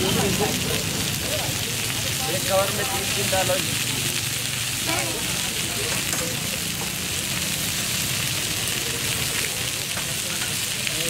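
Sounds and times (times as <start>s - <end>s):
chicken sizzling on a griddle: 0.0s - 11.0s.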